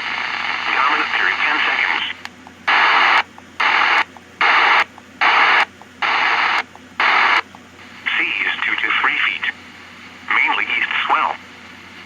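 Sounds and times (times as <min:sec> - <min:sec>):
radio static hiss bursts: 0:00.0 - 0:12.0.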